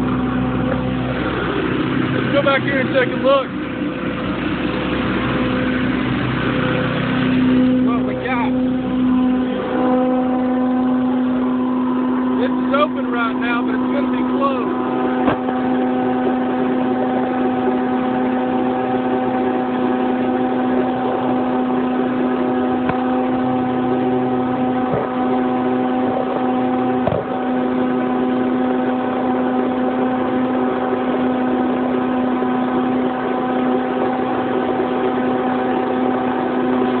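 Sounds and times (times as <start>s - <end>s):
small gas engine humming: 0.0s - 37.0s.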